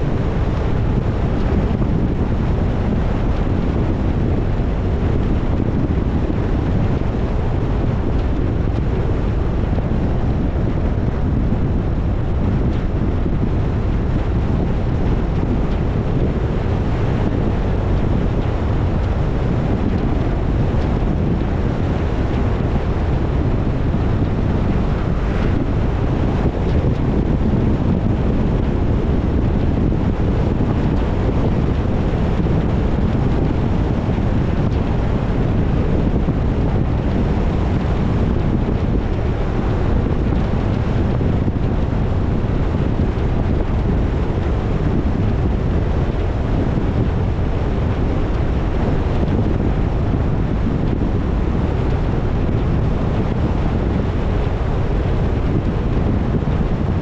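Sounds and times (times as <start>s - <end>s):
wind on the microphone: 0.0s - 57.0s.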